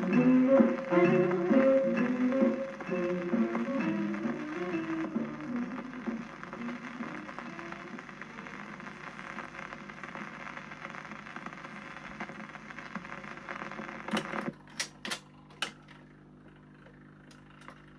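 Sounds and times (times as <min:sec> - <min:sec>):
faint player hum: 0:00.0 - 0:17.9
record crackly hiss: 0:00.0 - 0:17.9
sharp record clicks: 0:00.0 - 0:17.9.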